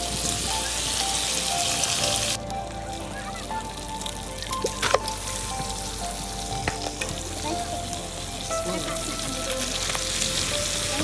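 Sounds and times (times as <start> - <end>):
meat sizzling over a campfire: 0.0 - 11.0.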